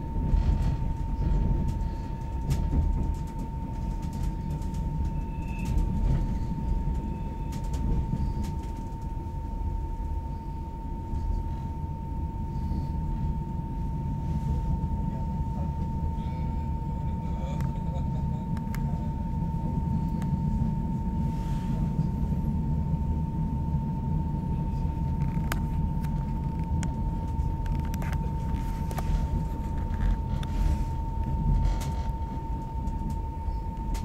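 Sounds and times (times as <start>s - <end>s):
train wheels rumbling on track: 0.0s - 34.0s.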